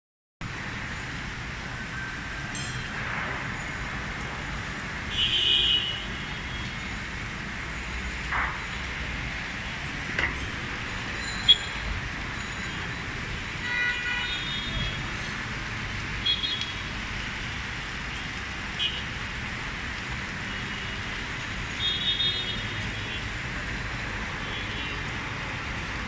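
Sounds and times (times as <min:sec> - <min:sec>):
city traffic hiss: 0:00.4 - 0:26.0.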